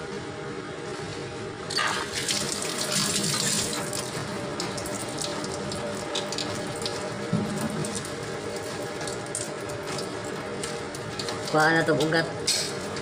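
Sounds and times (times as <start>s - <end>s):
tap water running into sink: 1.7s - 12.2s.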